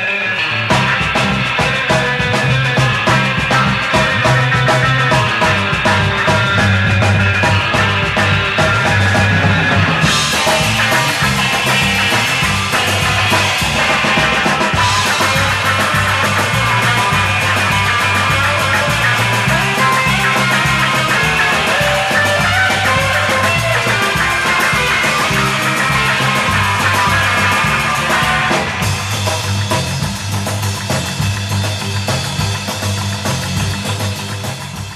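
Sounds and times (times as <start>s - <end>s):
drums: 0.0s - 34.9s
electric guitar: 0.0s - 34.9s
pulsing bass line: 0.6s - 34.9s.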